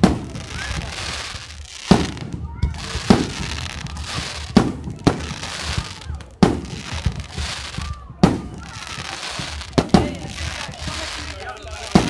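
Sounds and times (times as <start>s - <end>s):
fireworks bursting with sharp bangs: 0.0s - 12.0s
fireworks hissing and crackling: 0.0s - 12.0s.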